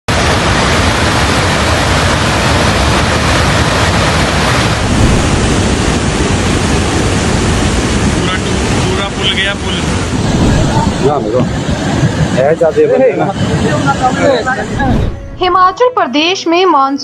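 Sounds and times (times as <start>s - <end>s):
river floodwater roaring: 0.1s - 14.6s.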